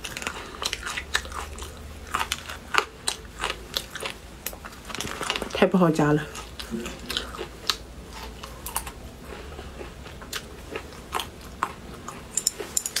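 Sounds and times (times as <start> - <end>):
person chewing crunchy food: 0.0 - 5.6, 6.3 - 13.0.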